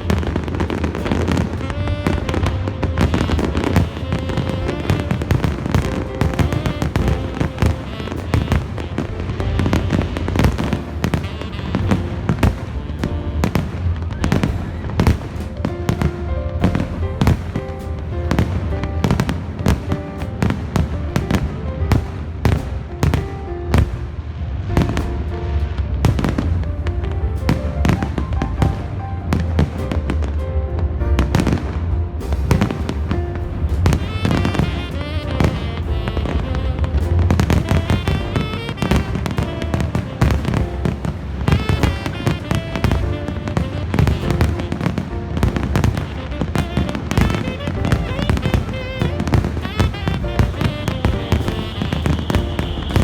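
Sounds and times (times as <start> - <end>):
fireworks bangs and crackles: 0.0 - 53.0
loud music: 0.0 - 53.0.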